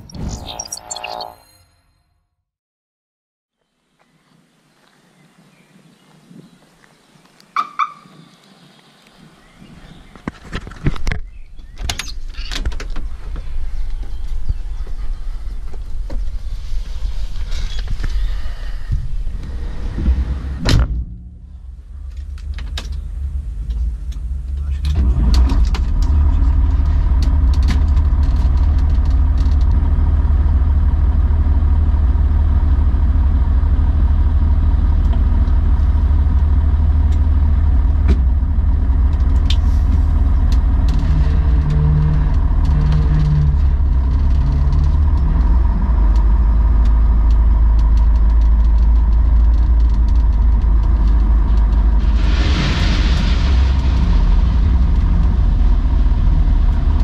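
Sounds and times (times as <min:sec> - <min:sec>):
diesel engine rumbling: 0:09.4 - 0:57.0.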